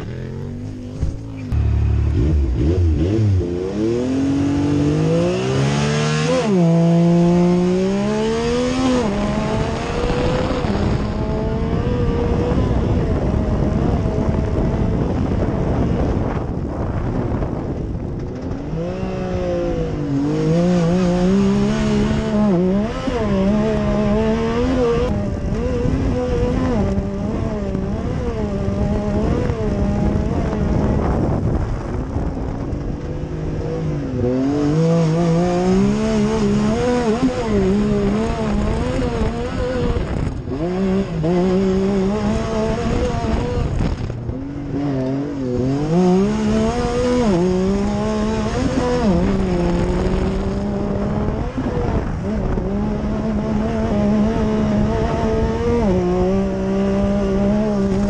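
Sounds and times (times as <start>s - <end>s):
engine revving under load: 0.0s - 16.6s, 18.2s - 58.0s.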